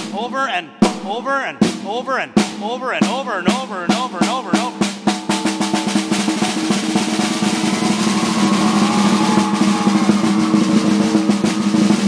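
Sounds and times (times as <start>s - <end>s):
snare drum roll: 0.8s - 12.0s.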